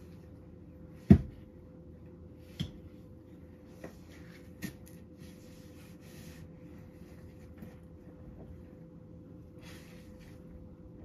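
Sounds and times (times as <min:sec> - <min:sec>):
fan heater humming: 0:00.0 - 0:11.0.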